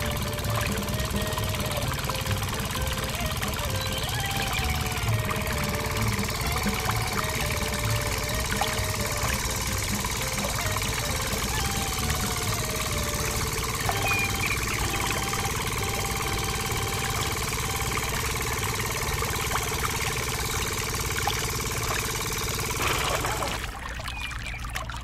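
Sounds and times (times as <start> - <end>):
model engine chugging: 0.0 - 25.0
water pouring into pond: 0.0 - 25.0.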